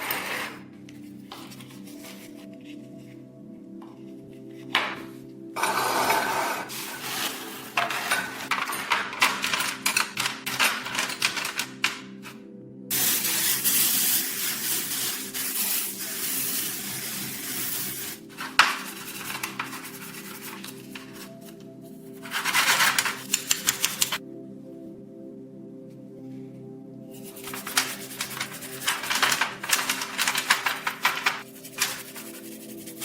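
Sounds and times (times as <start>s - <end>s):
background music: 0.0s - 33.0s.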